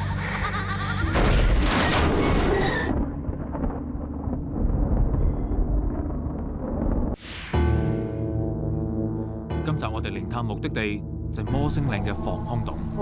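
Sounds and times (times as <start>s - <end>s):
low rumble: 1.2s - 13.0s.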